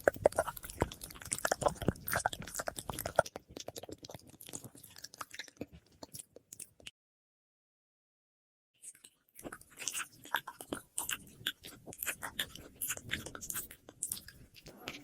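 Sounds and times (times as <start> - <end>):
wet mouth clicks and smacks: 0.0 - 6.9, 8.9 - 15.0.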